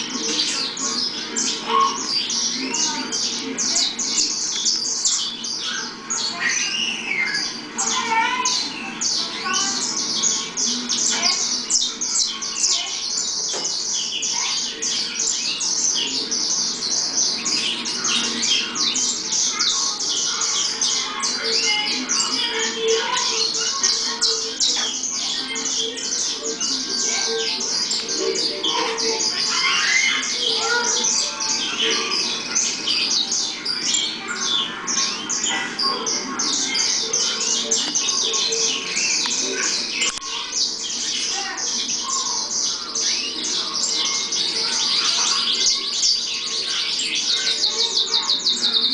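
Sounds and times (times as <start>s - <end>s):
finches chirping and singing: 0.0s - 48.9s.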